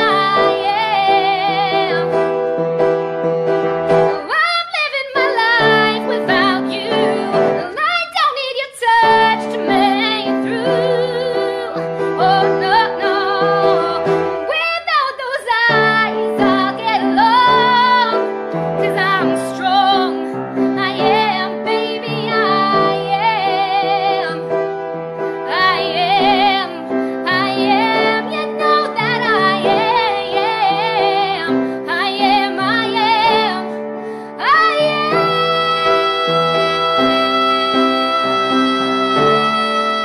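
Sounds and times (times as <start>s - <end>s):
woman singing with vibrato: 0.0s - 2.2s, 4.1s - 24.5s, 25.4s - 40.0s
piano chords: 0.0s - 40.0s.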